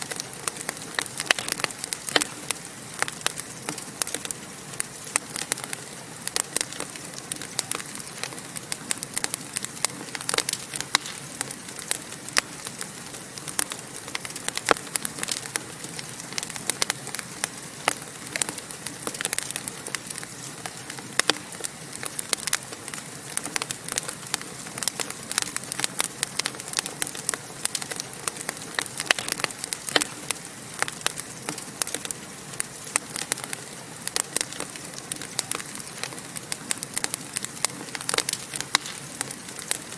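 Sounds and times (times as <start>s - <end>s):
hiss of flames: 0.0s - 39.9s
wood fire crackling: 0.0s - 39.9s.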